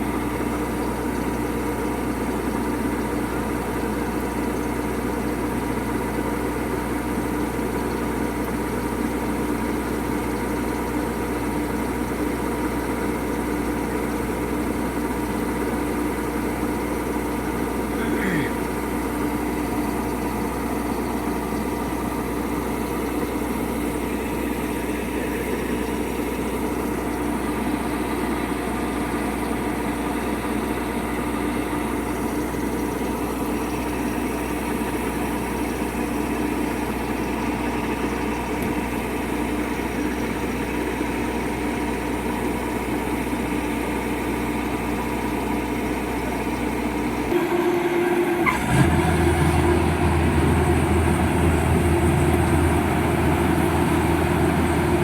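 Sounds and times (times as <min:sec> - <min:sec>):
farm machinery diesel engine: 0:00.0 - 0:55.0.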